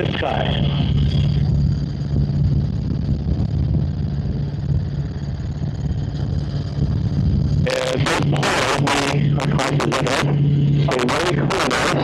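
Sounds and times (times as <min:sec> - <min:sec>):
faint high whine: 0:00.0 - 0:12.0
helicopter engine and rotor drone: 0:00.0 - 0:12.0.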